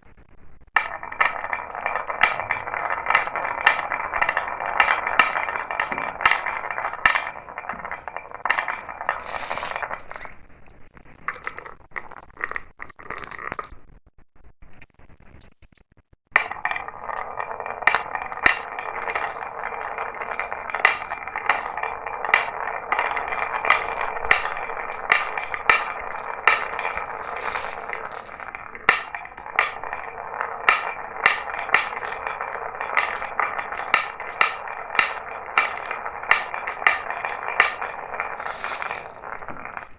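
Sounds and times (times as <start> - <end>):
marbles rolling down a marble run: 0.7 - 13.8, 16.4 - 39.9.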